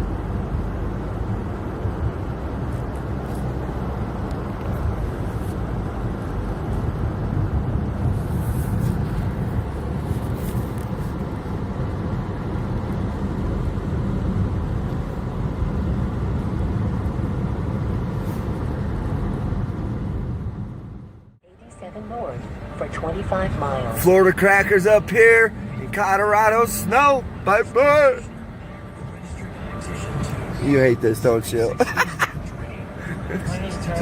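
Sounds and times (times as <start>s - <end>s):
car road and engine noise: 0.0s - 34.0s.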